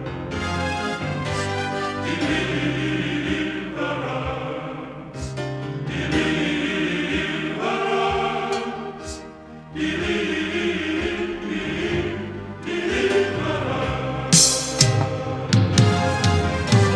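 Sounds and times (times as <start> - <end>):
choir singing: 0.0 - 16.9.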